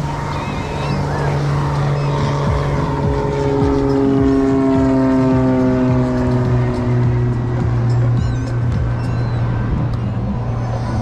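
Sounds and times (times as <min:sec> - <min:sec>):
engine droning past: 0:00.0 - 0:11.0.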